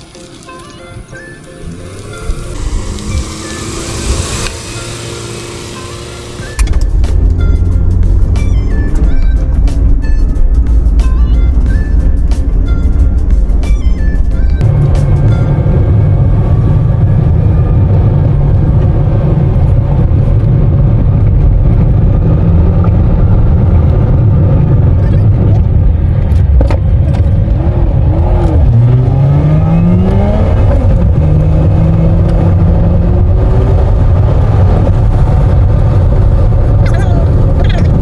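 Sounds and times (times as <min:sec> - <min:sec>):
car engine: 0:00.0 - 0:38.0
road rumble: 0:00.0 - 0:38.0.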